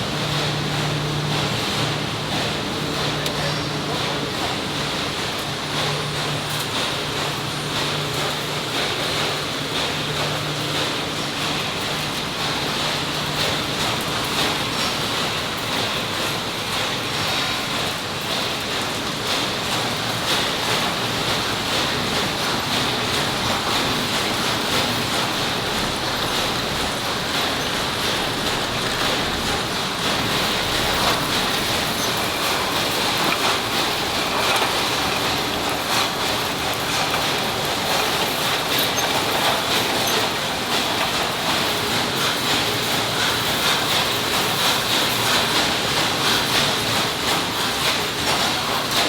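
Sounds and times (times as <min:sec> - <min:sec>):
industrial machinery noise: 0:00.0 - 0:49.0.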